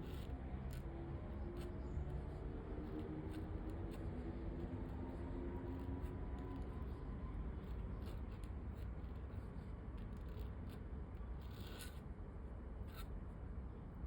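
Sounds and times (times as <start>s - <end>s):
pen nib scratching paper: 0.0s - 12.0s.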